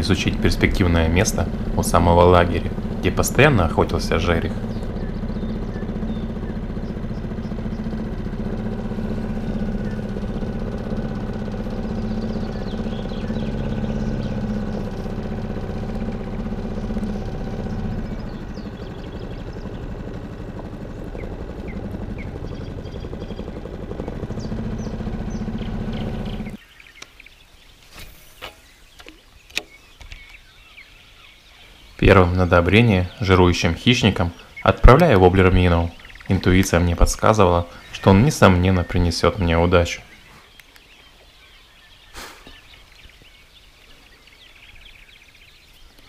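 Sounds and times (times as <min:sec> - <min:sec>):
motor engine running: 0:00.0 - 0:26.6, 0:29.8 - 0:46.0
birds chirping: 0:00.0 - 0:46.0.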